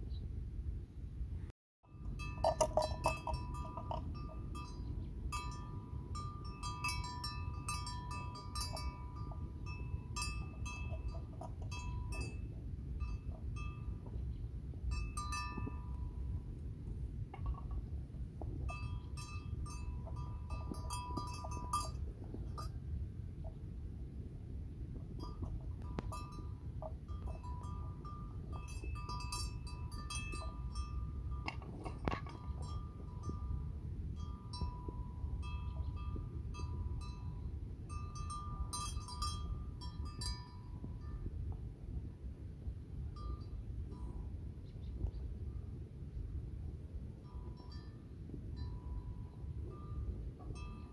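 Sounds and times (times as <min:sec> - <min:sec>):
steady low rumble: 0:00.0 - 0:50.9
livestock bell clinking: 0:01.9 - 0:23.0, 0:25.1 - 0:41.6, 0:43.0 - 0:44.8, 0:47.0 - 0:50.9.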